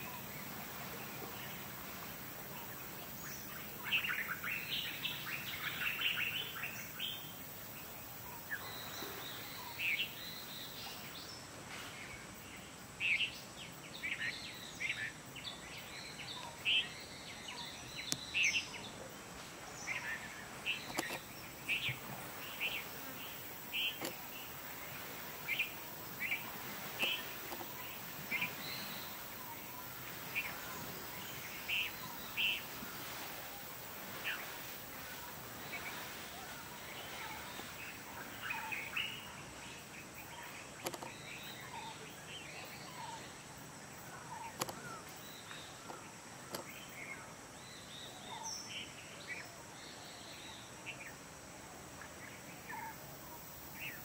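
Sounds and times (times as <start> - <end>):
steady outdoor hiss: 0.0 - 54.0
wild birds chirping: 0.0 - 54.0.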